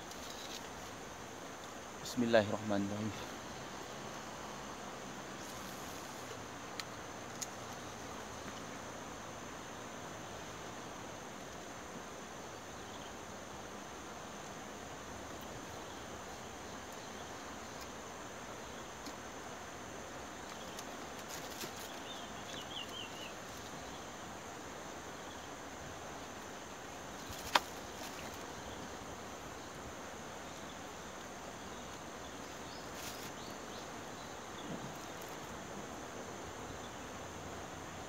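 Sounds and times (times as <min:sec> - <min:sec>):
outdoor background hiss: 0:00.0 - 0:38.0.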